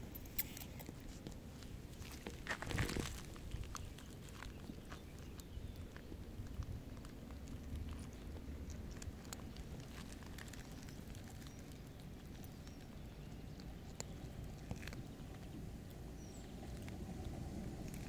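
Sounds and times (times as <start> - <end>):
cat chewing dry kibble: 0.0 - 18.0
low background rumble: 0.0 - 18.0.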